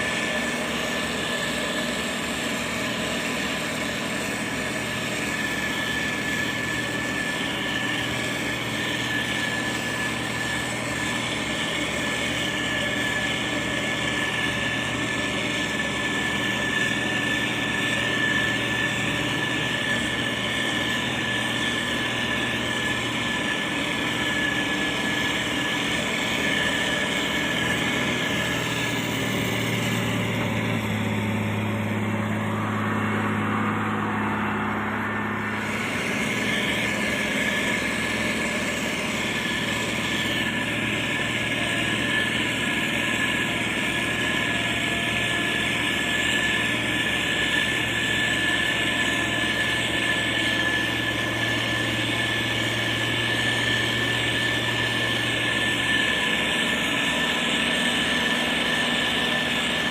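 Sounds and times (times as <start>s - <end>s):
diesel engine running: 0.0s - 59.9s
high whine: 0.0s - 59.9s.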